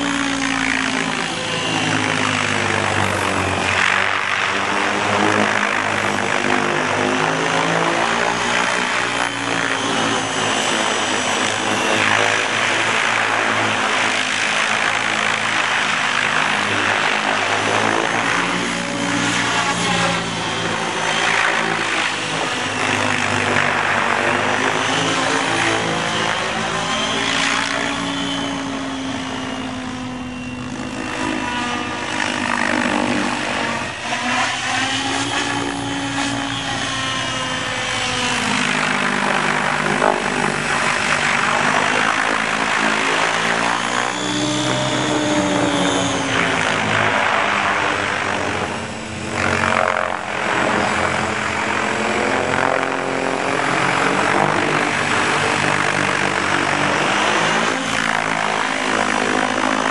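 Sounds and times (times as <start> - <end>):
helicopter rotors whirring: 0.0 - 59.9.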